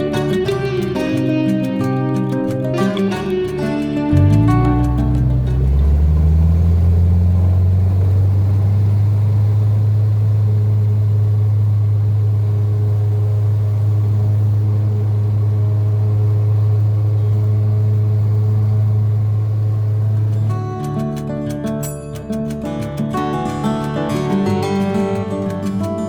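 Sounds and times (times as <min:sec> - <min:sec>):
propeller airplane engine droning: 0:00.0 - 0:23.1.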